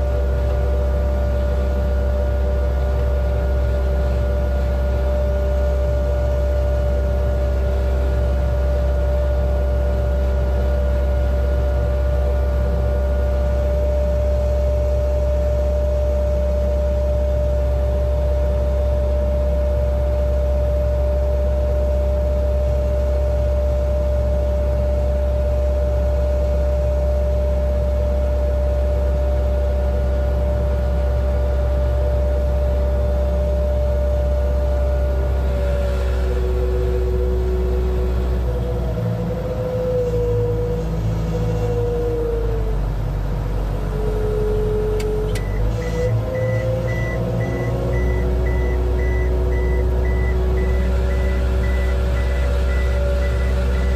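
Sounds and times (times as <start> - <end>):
steady engine whine: 0.0 - 53.9
tractor engine deep rumble: 0.0 - 53.9.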